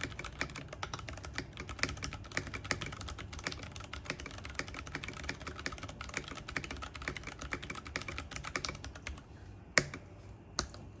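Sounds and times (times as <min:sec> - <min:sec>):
mechanical keyboard typing: 0:00.0 - 0:09.2.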